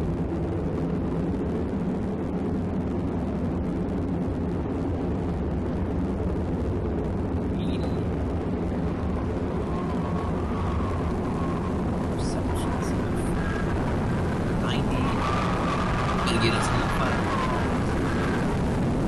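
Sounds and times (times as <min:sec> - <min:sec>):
deep rumbling tornado roar: 0:00.0 - 0:19.0.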